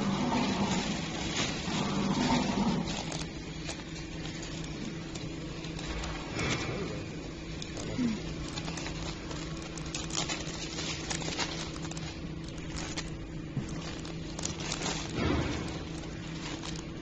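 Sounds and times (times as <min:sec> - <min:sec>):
packaging machine humming: 0:00.0 - 0:17.0
plastic film crinkling: 0:00.0 - 0:17.0.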